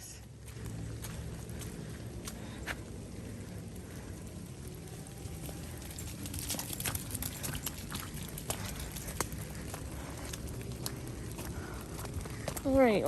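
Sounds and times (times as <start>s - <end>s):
rain pattering: 0.0s - 13.0s
sharp ticks of raindrops: 0.0s - 13.0s
steady low rumble: 0.0s - 13.0s.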